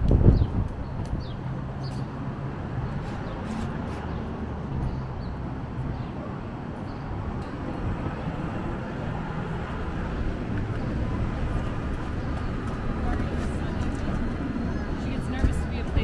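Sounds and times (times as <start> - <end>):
traffic hum: 0.0 - 16.0.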